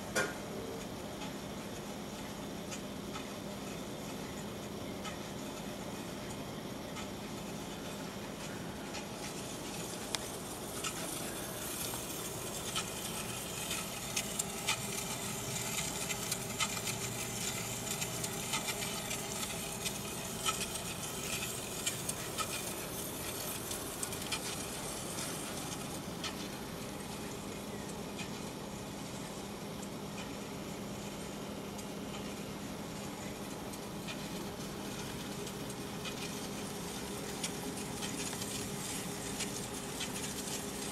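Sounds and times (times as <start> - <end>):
small ticks and clicks: 0.2 - 40.9.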